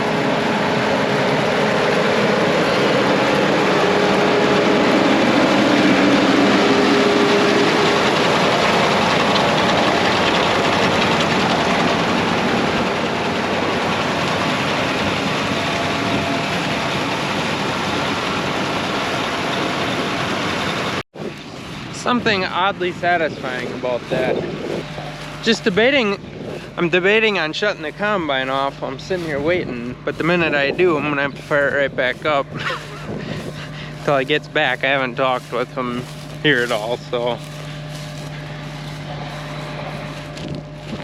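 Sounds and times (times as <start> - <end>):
combine harvester running: 0.0 - 41.0.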